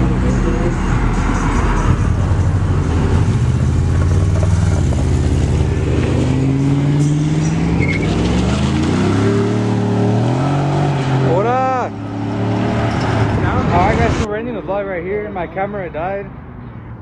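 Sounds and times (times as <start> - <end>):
car engine revving up: 0.0 - 14.3
cars passing: 0.0 - 17.0.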